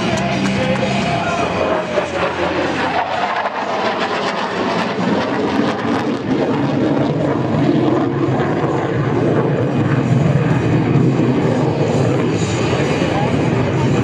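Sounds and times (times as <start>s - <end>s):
fighter jet engine roaring: 0.0s - 14.0s.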